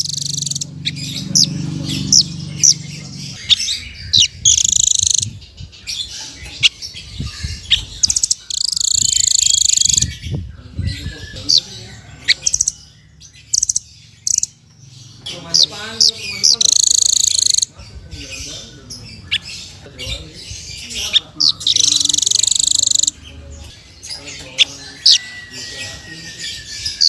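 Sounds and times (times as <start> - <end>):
buzzy bird trills: 0.0 - 27.0
songbird singing: 0.0 - 27.0.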